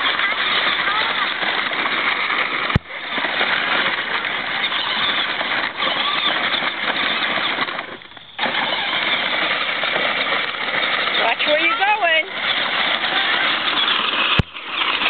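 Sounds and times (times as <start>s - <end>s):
plastic wheels crunching on gravel: 0.0s - 15.0s.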